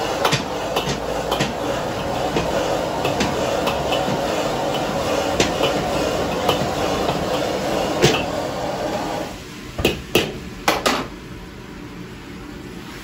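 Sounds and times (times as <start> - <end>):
wok burner roar: 0.0 - 13.0.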